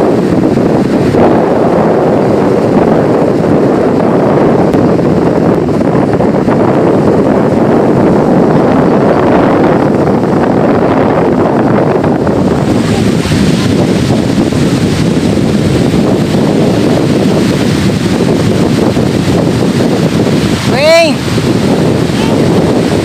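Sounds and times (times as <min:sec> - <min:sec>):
surf washing on shore: 0:00.0 - 0:23.0
wind buffeting microphone: 0:00.0 - 0:23.0.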